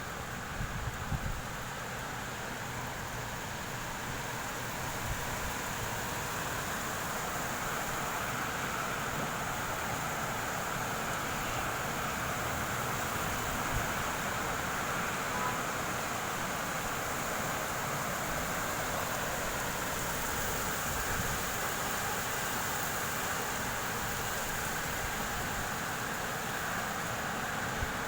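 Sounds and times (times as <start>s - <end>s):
rain: 0.0s - 28.0s
wind: 0.0s - 28.0s.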